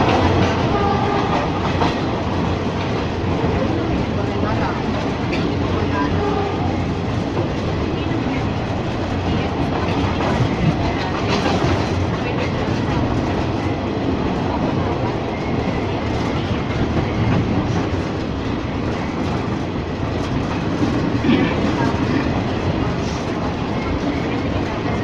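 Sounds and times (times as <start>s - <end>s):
train rumbling along track: 0.0s - 25.0s.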